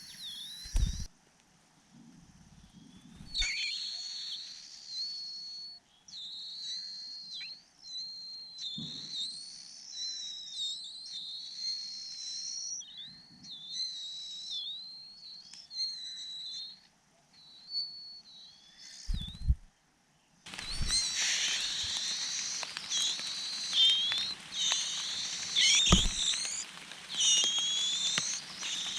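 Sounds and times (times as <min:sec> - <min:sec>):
baby bird whistling calls: 0:00.0 - 0:01.1, 0:03.2 - 0:16.8, 0:17.6 - 0:19.6, 0:20.5 - 0:28.9.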